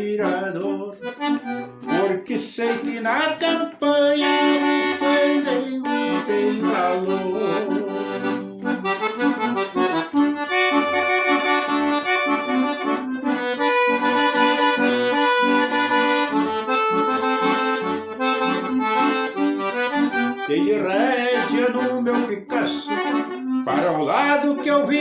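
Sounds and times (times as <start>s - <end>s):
accordion playing: 0.0s - 25.0s.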